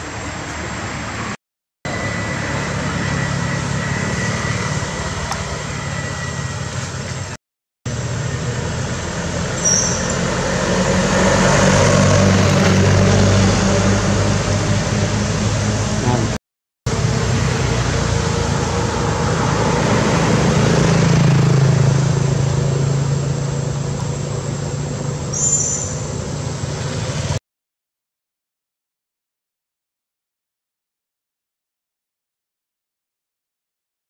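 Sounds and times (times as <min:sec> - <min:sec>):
traffic passing: 0:00.0 - 0:27.4
vehicle engine humming: 0:00.0 - 0:27.4.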